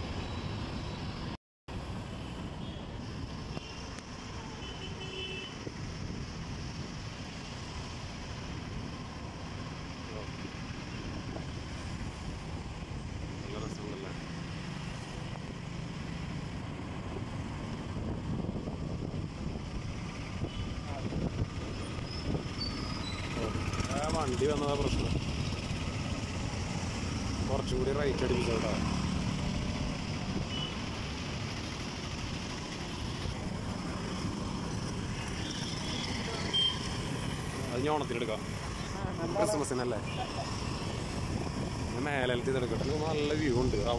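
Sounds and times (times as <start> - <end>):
vehicle engine and road rumble: 0.0 - 43.9.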